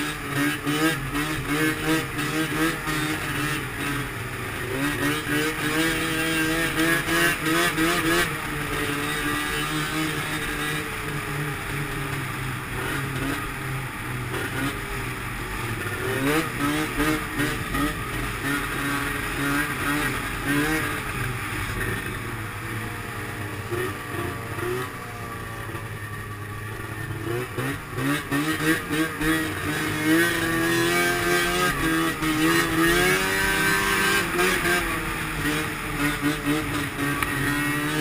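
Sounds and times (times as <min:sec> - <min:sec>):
snowmobile engine revving: 0:00.0 - 0:38.0.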